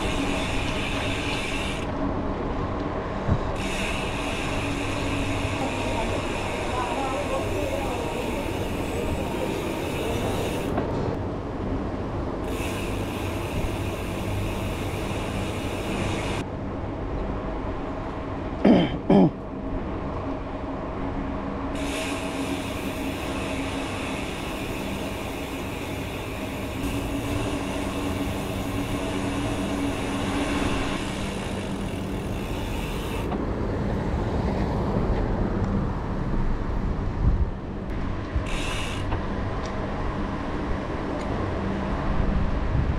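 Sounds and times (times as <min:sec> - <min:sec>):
bicycle tyre noise: 0:00.0 - 0:11.3, 0:12.3 - 0:16.6, 0:21.7 - 0:42.9.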